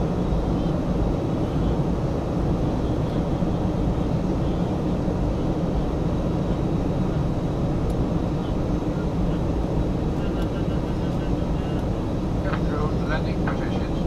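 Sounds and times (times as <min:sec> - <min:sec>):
airliner cabin engine din: 0:00.0 - 0:14.0.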